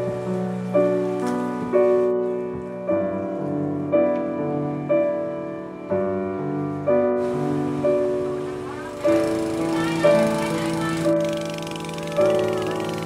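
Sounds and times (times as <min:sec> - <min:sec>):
soft keyboard chords: 0:00.0 - 0:13.0.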